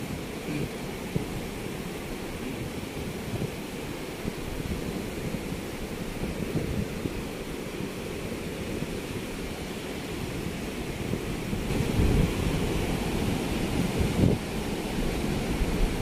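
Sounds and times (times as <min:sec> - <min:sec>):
ocean surf breaking on beach: 0:00.0 - 0:16.0
wind rumbling on microphone: 0:00.0 - 0:16.0.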